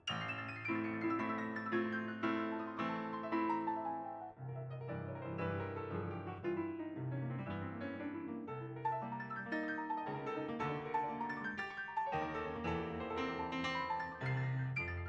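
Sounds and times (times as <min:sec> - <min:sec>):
piano melody with chords: 0:00.0 - 0:15.0.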